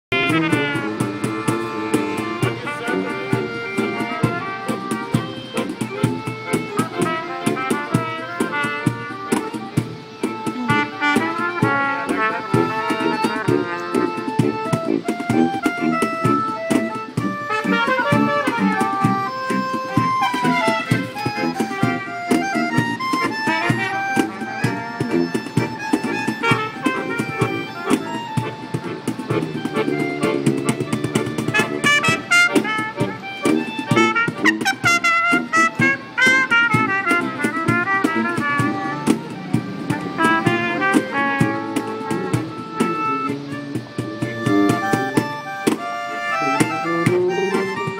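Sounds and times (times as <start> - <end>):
brass street band playing: 0.0 - 47.9
accordion: 0.1 - 47.9
cajon drum beat: 0.1 - 47.9
sousaphone bass: 0.1 - 47.9
trumpet melody: 0.1 - 47.9.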